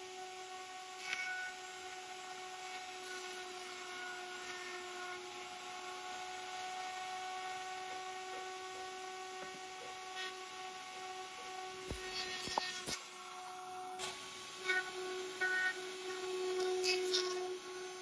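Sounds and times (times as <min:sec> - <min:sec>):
power tool motor whine: 0:00.0 - 0:18.0.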